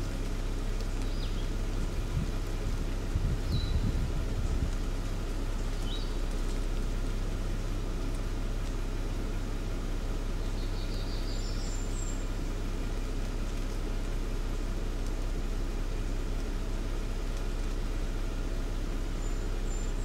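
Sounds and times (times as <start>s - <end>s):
low rumble and hiss: 0.0s - 20.0s
songbird chirps: 0.0s - 20.0s.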